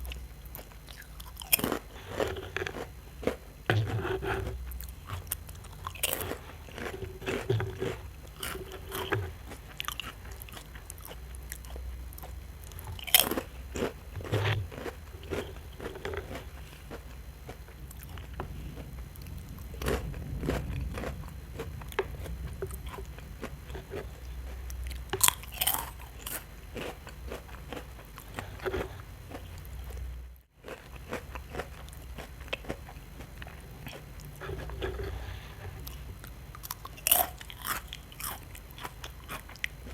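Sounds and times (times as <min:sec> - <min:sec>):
crunching wafer cone: 0:00.0 - 0:39.9
soft chewing: 0:00.0 - 0:39.9.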